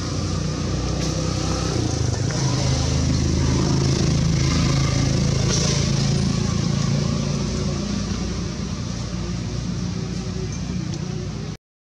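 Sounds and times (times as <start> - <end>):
vehicle engine humming: 0.0 - 11.6.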